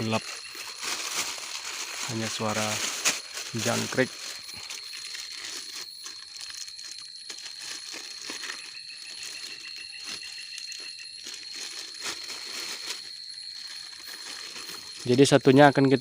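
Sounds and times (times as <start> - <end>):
crickets chirping: 0.0 - 16.0
lower-pitched insect trill: 0.0 - 16.0.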